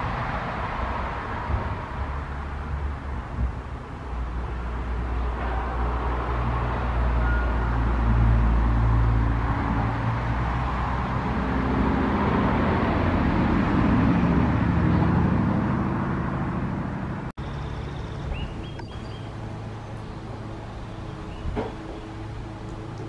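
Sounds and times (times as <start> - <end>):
vehicle passing: 0.0 - 23.0.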